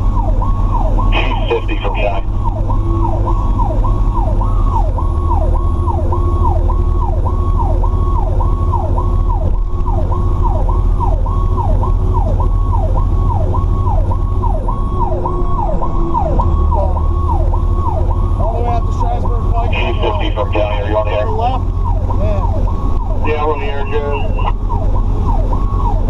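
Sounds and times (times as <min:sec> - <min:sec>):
road noise: 0:00.0 - 0:26.0
truck engine rumble: 0:00.0 - 0:26.0
electronic siren yelping: 0:00.2 - 0:26.0.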